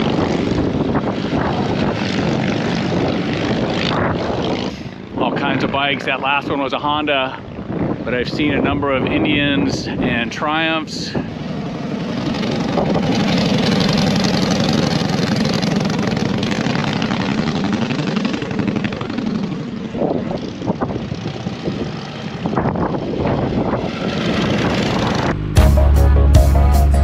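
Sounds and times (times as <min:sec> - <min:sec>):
motorcycles passing by: 0:00.0 - 0:25.6.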